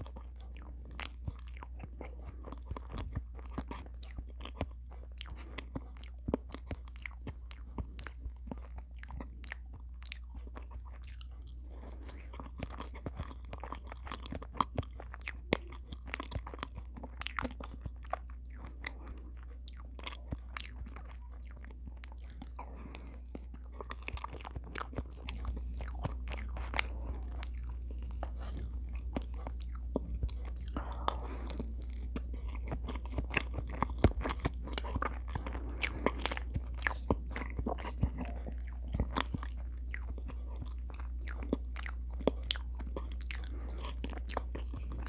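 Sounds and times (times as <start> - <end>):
low steady hum: 0.0 - 45.0
wet chewing with lip clicks: 0.0 - 45.0.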